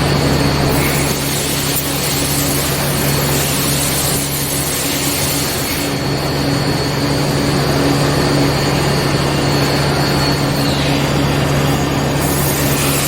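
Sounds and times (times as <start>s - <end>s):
machine humming: 0.0s - 13.0s
thin high whine: 0.0s - 13.0s.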